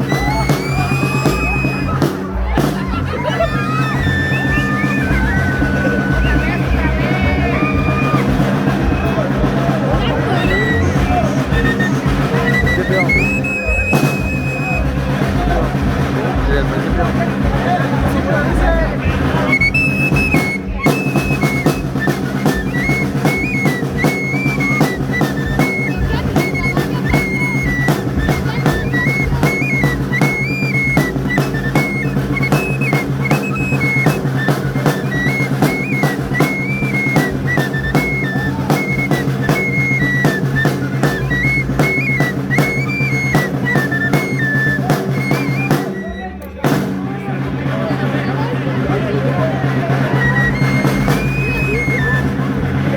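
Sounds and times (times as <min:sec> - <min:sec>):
high flute melody: 0:00.0 - 0:52.9
steady drum beat: 0:00.0 - 0:52.9.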